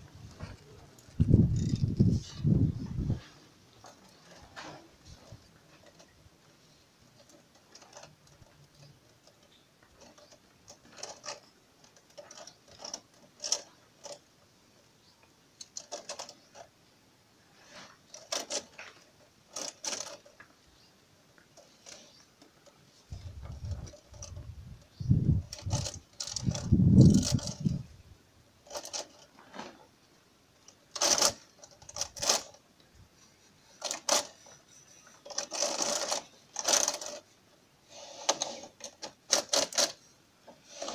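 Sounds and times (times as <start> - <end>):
plastic matting rattling and scraping: 0.0 - 14.3, 15.6 - 16.8, 17.5 - 20.6, 21.4 - 40.9.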